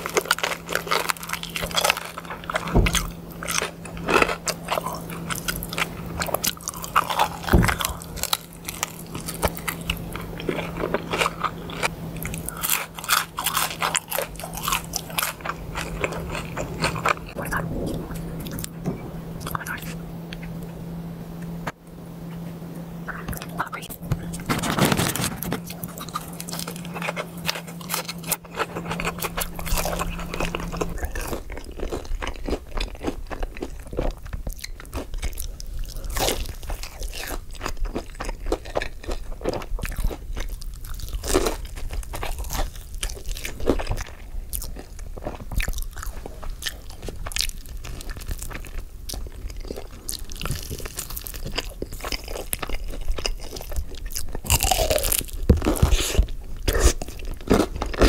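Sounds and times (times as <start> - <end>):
crunchy food chewing: 0.0 - 18.8, 19.4 - 20.7, 23.0 - 58.0
low steady hum: 0.0 - 58.0.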